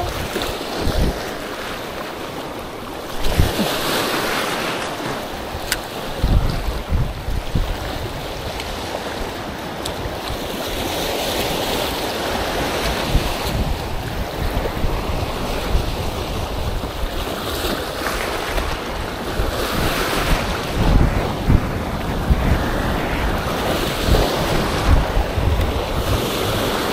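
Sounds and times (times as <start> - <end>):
surf breaking on beach: 0.0 - 26.9
wind buffeting microphone: 0.0 - 26.9.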